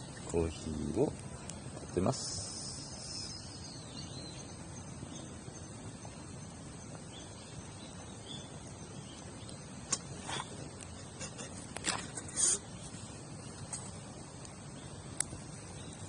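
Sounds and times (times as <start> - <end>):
campfire crackling: 0.0 - 16.0
insects chirping: 0.0 - 16.0.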